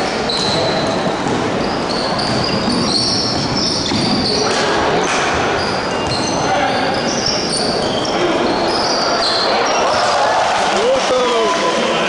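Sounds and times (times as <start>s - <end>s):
shoes squeaking on hardwood court: 0.0s - 10.2s
crowd murmur: 0.0s - 12.0s.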